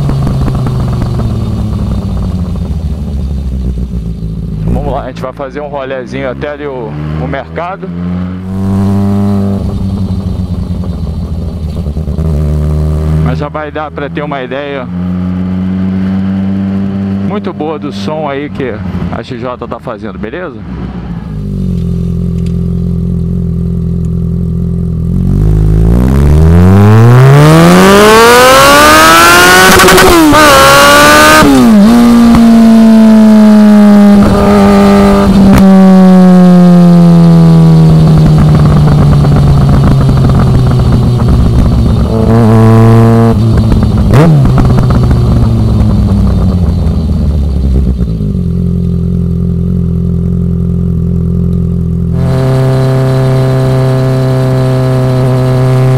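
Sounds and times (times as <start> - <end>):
motorcycle engine revving: 0.0 - 19.2, 20.6 - 55.9.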